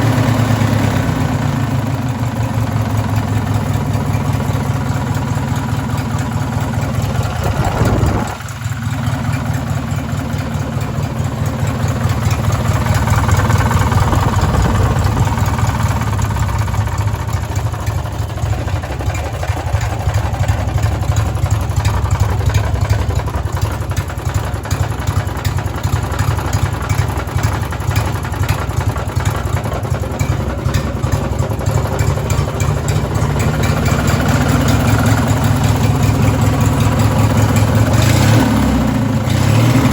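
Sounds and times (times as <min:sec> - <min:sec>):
small engine knocking: 0:00.0 - 0:39.9.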